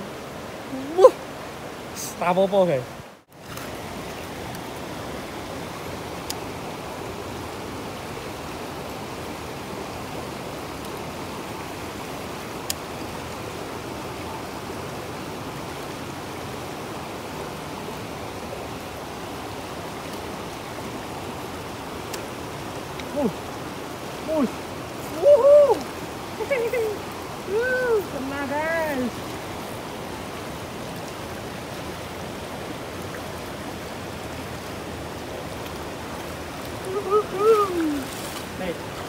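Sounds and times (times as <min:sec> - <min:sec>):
river rushing: 0:00.0 - 0:39.0.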